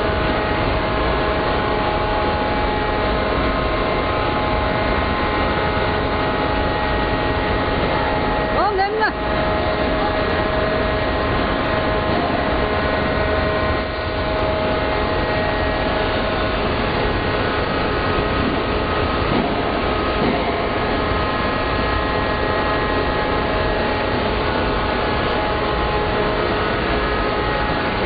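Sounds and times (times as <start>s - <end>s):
industrial machinery rumble: 0.0s - 28.0s.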